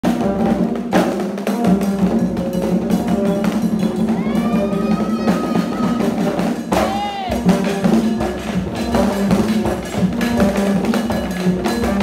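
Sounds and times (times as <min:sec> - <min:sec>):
drum-led folk dance music: 0:00.0 - 0:12.0.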